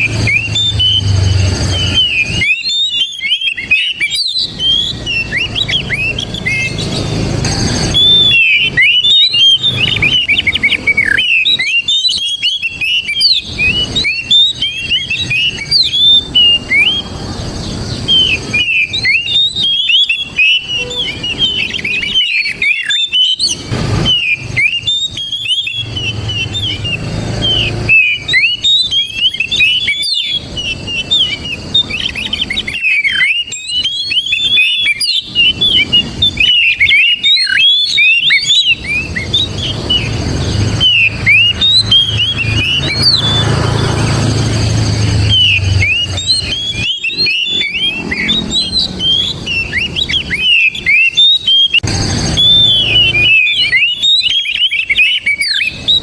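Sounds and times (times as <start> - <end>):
bird whistles and chirps: 0.0 - 56.0.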